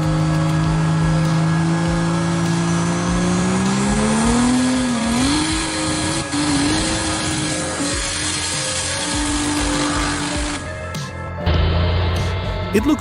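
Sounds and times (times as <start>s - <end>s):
engine running and revving: 0.0s - 13.0s.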